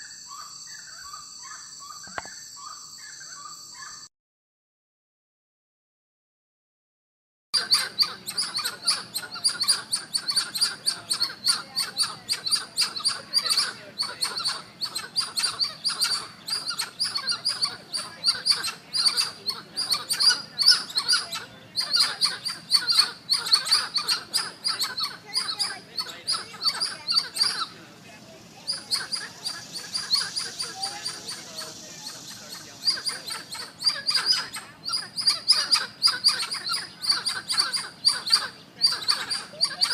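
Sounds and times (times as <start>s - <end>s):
primates chirping calls: 0.0s - 4.1s, 7.6s - 39.9s.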